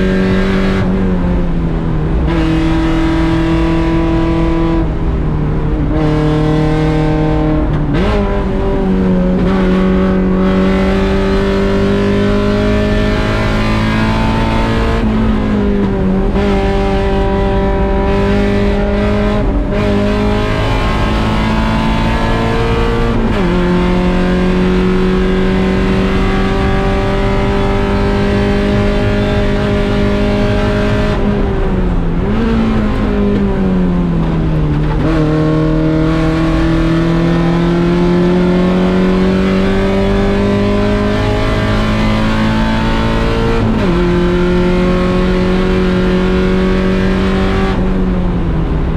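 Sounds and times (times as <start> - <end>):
race car engine accelerating: 0.0 - 48.9.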